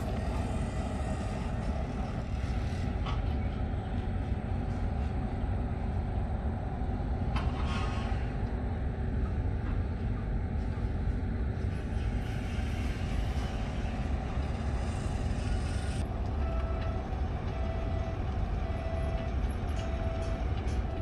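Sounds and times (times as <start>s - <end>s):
heavy diesel machinery rumbling: 0.0s - 21.0s.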